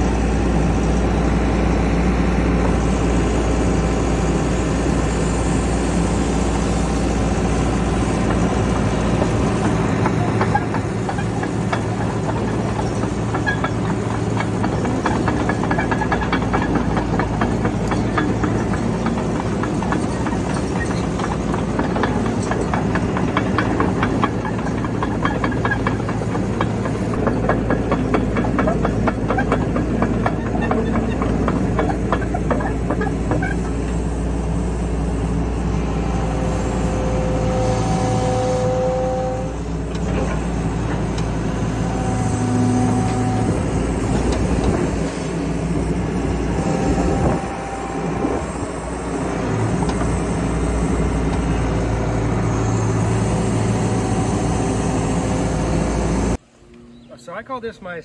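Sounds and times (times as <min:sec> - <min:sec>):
diesel engine running: 0:00.0 - 0:56.6
hydraulics whining: 0:00.0 - 0:58.0
steel tracks clattering: 0:03.4 - 0:56.4.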